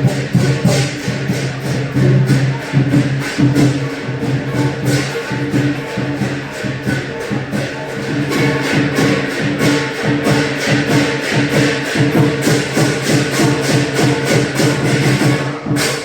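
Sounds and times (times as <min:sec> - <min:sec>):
cymbals crashing: 0:00.0 - 0:16.0
drum beating: 0:00.0 - 0:16.0
gong ringing: 0:00.0 - 0:16.0.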